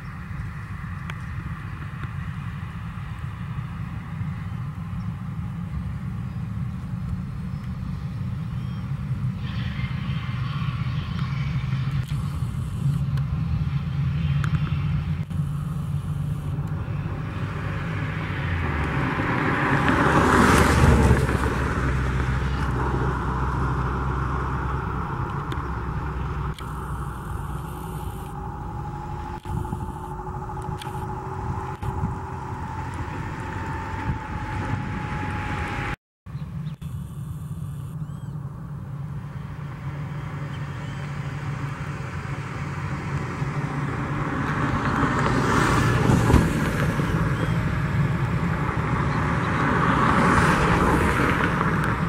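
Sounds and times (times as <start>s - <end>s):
steady low rumble: 0.0s - 20.2s, 20.8s - 45.0s
faint rising whine: 0.0s - 20.8s, 21.6s - 44.9s
jet engines at low thrust: 0.0s - 52.0s.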